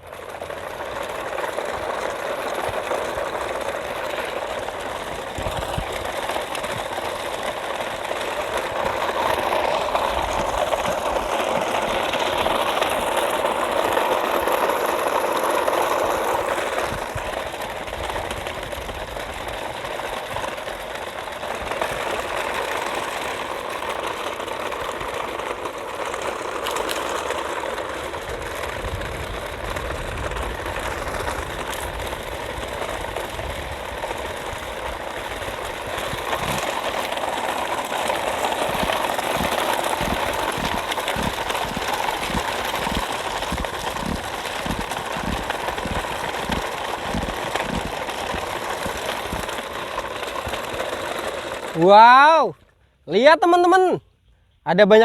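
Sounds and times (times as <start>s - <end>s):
motor humming: 0.0s - 51.9s.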